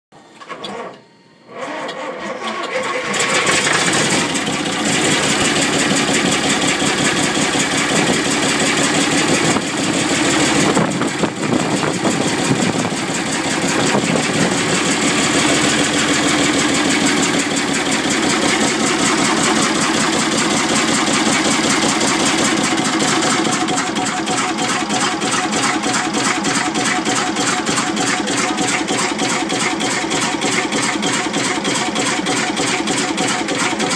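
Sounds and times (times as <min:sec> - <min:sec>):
diesel engine starting and running: 0:00.2 - 0:33.9.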